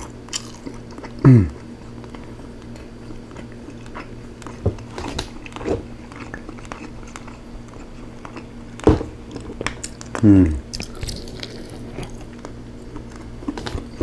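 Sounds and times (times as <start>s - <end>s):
chewing food: 0.0s - 14.0s.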